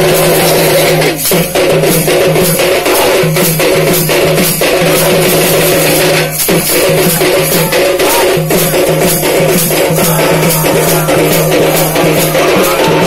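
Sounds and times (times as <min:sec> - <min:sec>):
loud distorted drumming: 0:00.0 - 0:13.0.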